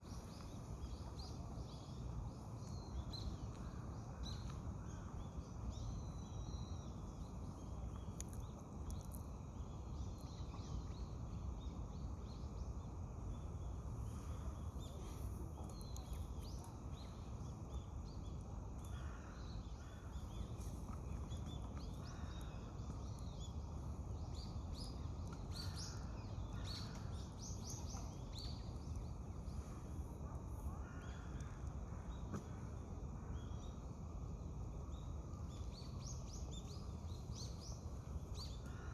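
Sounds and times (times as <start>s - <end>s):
low outdoor rumble: 0.0s - 38.9s.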